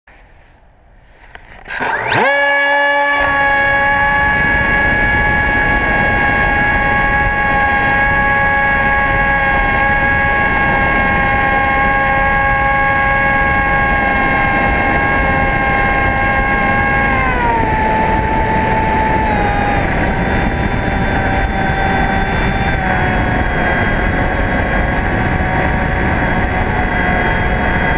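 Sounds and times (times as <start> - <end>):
wind rushing over camera: 0.1 - 27.9
electric motor whining: 1.3 - 27.9.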